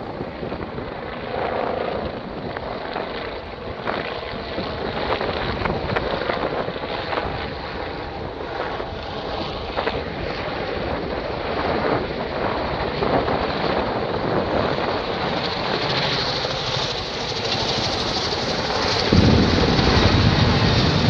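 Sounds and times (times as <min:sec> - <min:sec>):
helicopters flying overhead: 0:00.0 - 0:21.0
wind buffeting microphone: 0:00.0 - 0:21.0.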